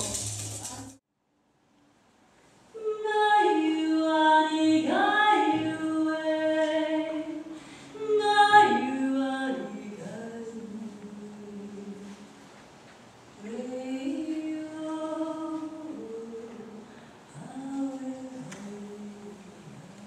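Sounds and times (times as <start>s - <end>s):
women singing unaccompanied: 2.8s - 12.4s, 13.4s - 20.0s.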